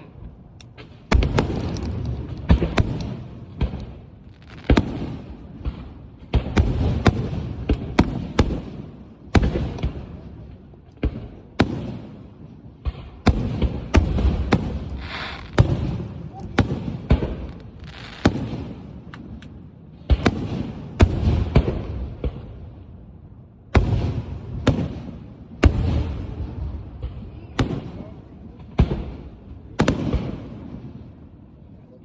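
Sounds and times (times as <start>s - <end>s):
fireworks bangs with rumbling echo: 0.0s - 31.7s.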